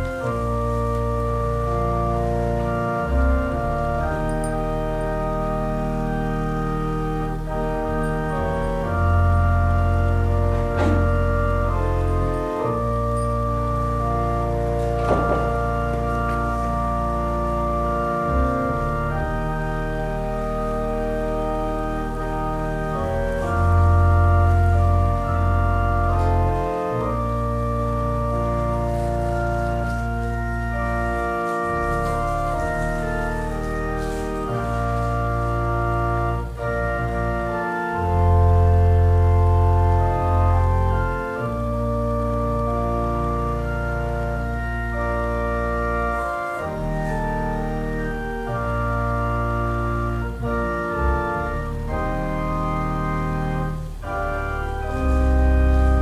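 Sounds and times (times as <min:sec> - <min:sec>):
organ playing slow chords: 0:00.0 - 0:56.0.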